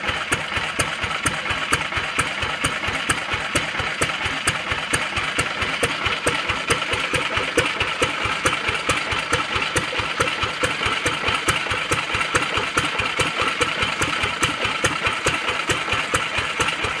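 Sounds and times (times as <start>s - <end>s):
kerosene engine idling: 0.0s - 17.0s.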